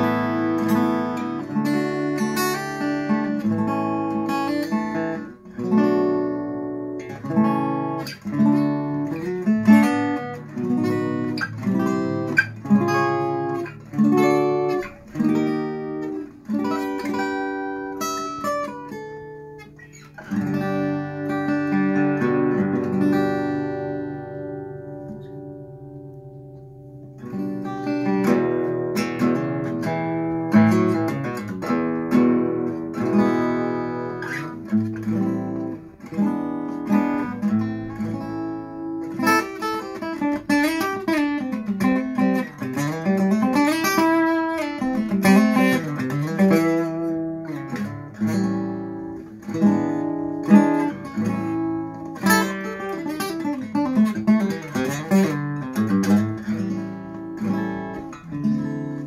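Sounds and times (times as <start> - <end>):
fingerstyle acoustic guitar: 0.0 - 59.0.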